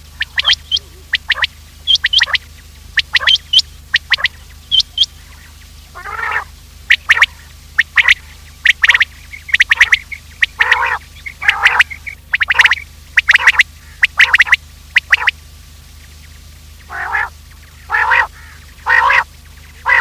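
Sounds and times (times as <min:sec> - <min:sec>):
quail calling: 0:00.0 - 0:15.4, 0:16.8 - 0:20.0
low steady hum: 0:00.0 - 0:20.0.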